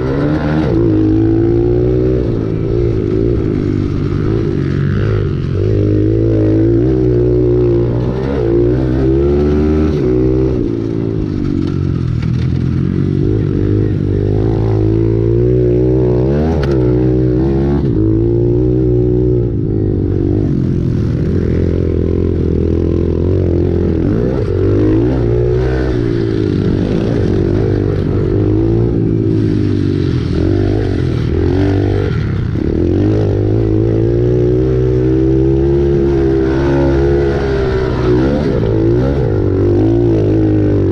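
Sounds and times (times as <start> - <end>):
motorbike rattling: 0.0 - 40.9
small motorbike engine racing: 0.0 - 40.9.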